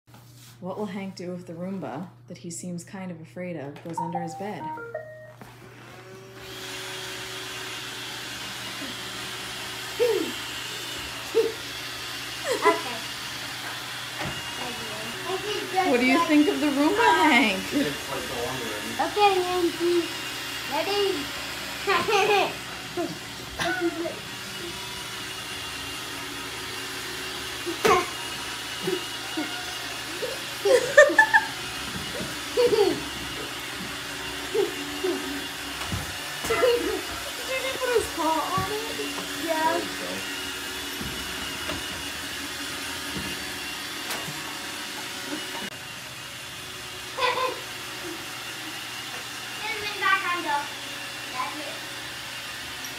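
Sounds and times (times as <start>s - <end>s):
robot vacuum whirring: 5.5s - 52.9s.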